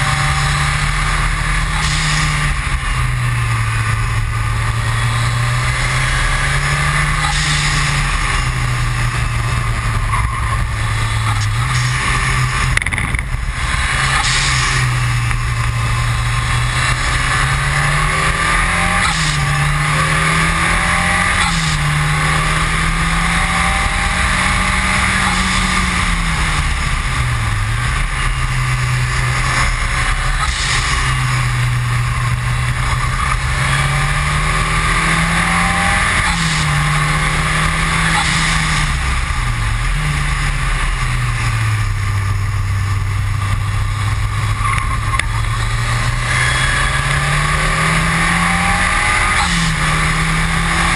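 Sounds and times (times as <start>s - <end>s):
car engine revving through gears: 0.0s - 50.9s
road and wind noise: 0.0s - 50.9s.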